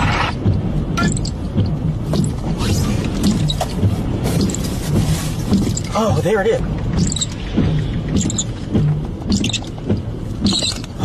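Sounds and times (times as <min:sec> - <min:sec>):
rattles and clicks: 0:00.0 - 0:11.0
vehicle interior rumble: 0:00.0 - 0:11.0.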